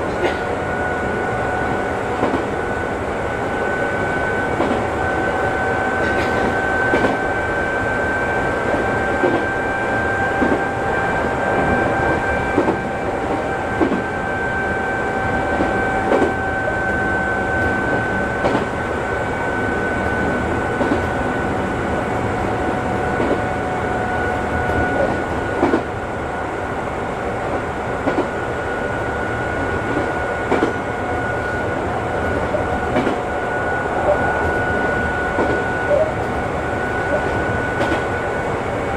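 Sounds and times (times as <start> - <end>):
train high whine: 0.0 - 38.9
train rumbling running noise: 0.0 - 38.9.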